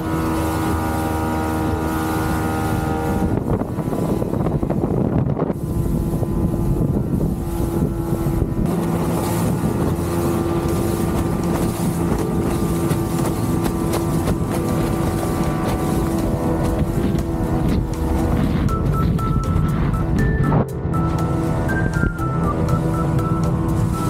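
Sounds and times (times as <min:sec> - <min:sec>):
motorboat engine droning: 0:00.0 - 0:24.0
wind buffeting microphone: 0:00.0 - 0:24.0.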